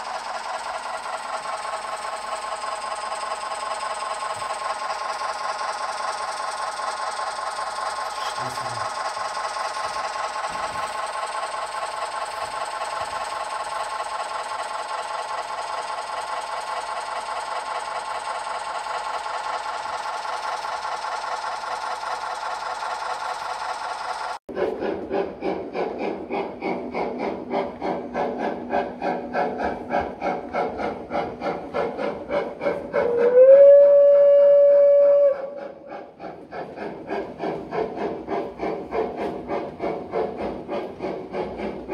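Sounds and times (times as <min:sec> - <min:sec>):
model train mechanical rattle: 0:00.0 - 0:41.9.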